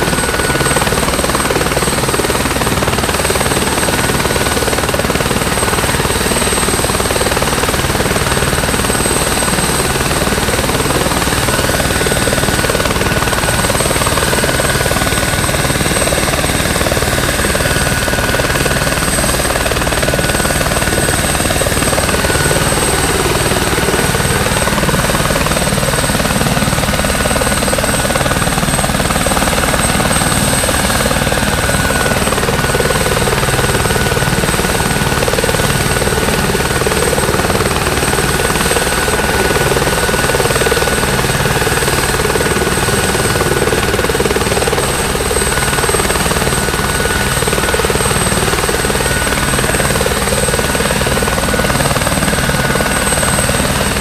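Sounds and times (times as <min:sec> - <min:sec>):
helicopter turbine whine: 0:00.0 - 0:54.0.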